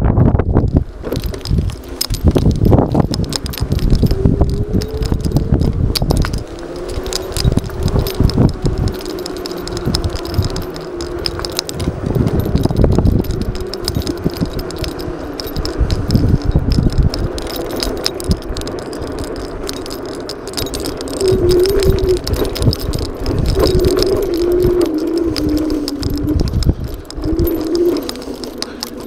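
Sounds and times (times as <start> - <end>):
scooter rattling over bumps: 0.0 - 29.0
key jangling: 0.6 - 29.0.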